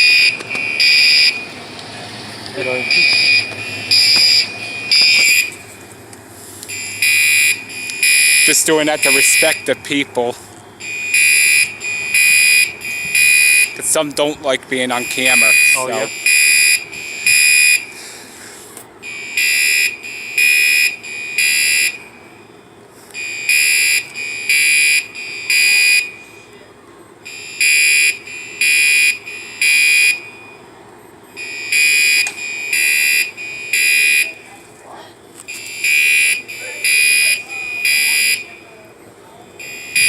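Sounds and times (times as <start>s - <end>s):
fire alarm horn blasts: 0.0s - 1.6s, 2.6s - 5.6s, 6.7s - 14.0s, 14.8s - 18.0s, 19.0s - 26.4s, 27.2s - 30.7s, 31.3s - 34.5s, 35.5s - 40.0s.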